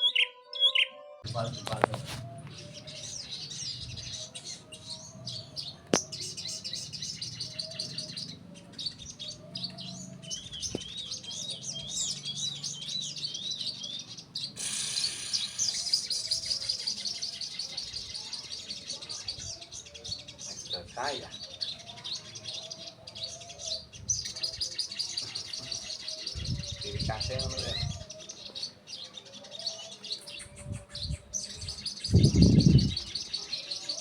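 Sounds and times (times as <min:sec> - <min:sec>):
songbirds twittering: 0:00.0 - 0:34.0.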